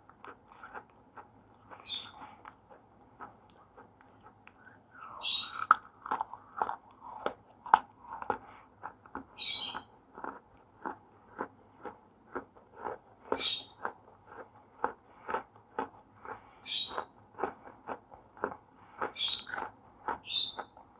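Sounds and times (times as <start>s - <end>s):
pencil being chewed: 0.0s - 20.8s.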